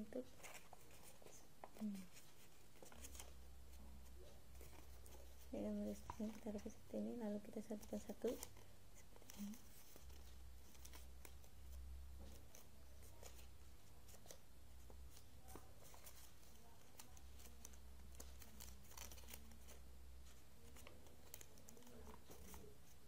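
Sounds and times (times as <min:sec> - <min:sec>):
paper rustling and crinkling: 0:00.2 - 0:06.8, 0:07.4 - 0:23.0.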